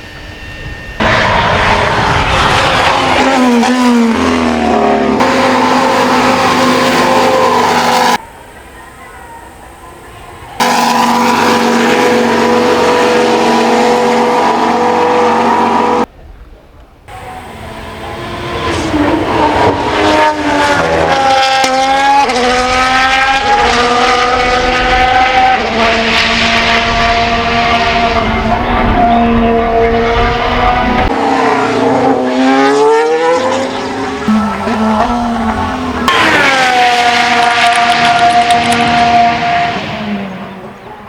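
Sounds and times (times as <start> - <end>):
car accelerating through gears: 0.8 - 8.2, 10.5 - 16.1, 17.1 - 40.9
racing car engine revving: 0.8 - 8.3, 9.8 - 16.1, 17.1 - 41.0.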